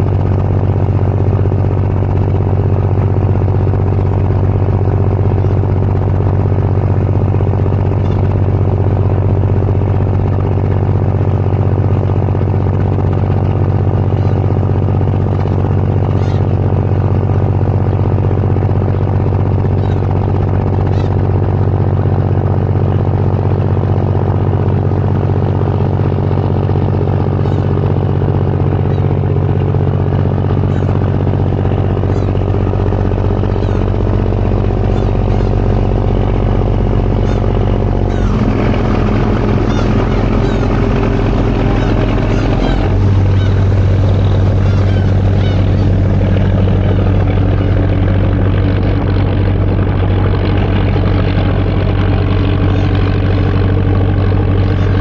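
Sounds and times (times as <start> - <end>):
large engine running: 0.0 - 55.0.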